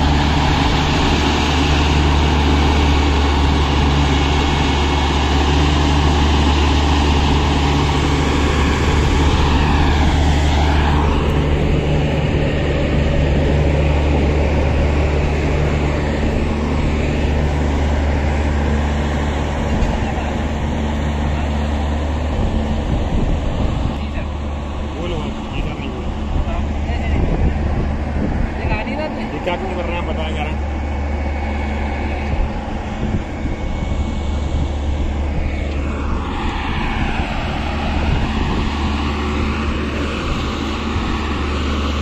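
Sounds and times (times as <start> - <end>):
diesel engine humming: 0.0 - 42.0.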